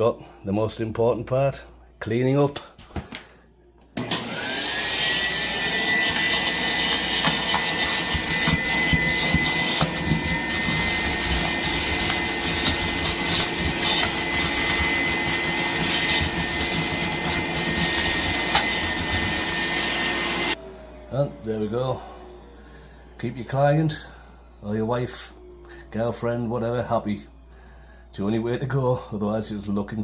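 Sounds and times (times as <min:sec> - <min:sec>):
vacuum cleaner motor whine: 0:03.2 - 0:30.0.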